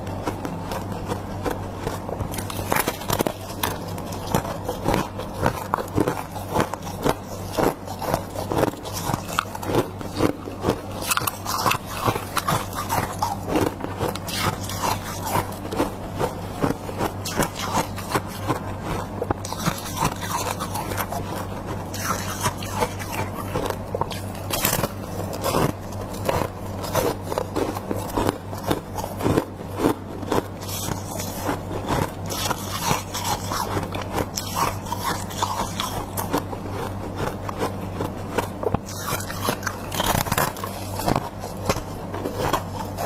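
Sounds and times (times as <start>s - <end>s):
chewing crisp frost crunches: 0.0s - 43.0s
steady low hum: 0.0s - 43.0s.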